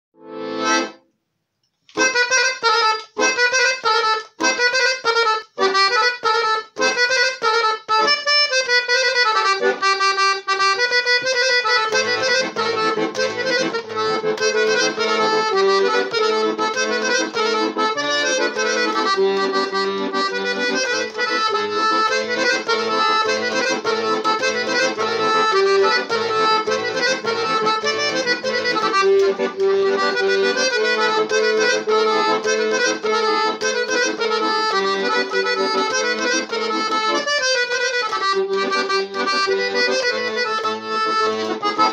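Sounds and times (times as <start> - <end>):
piano accordion playing: 0.2 - 1.1, 1.9 - 41.9.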